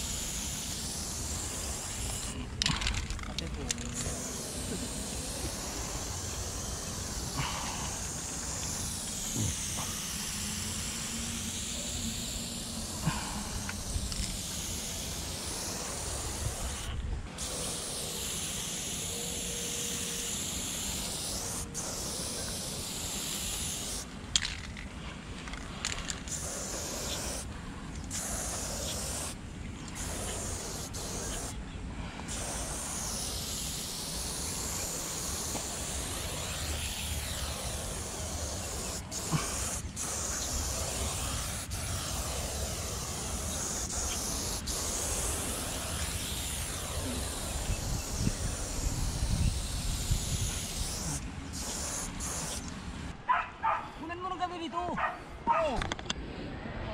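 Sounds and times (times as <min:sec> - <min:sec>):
spray paint can hissing: 0:00.0 - 0:31.6, 0:32.3 - 0:53.1.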